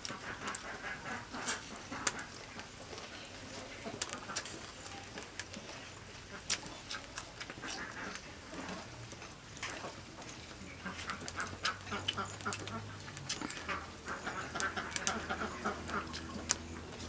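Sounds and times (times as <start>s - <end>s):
chewing with wet mouth smacks: 0.0s - 17.0s
crunchy chewing clicks: 0.0s - 17.0s.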